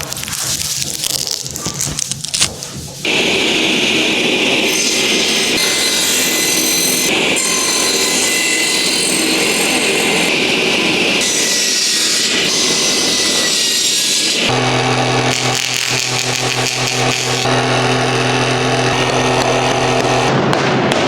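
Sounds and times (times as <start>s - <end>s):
electric power tool whining: 3.1s - 20.3s.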